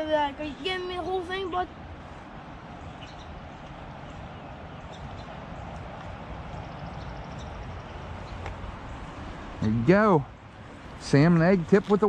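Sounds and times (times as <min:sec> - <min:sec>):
flowing creek water: 0:00.0 - 0:12.0.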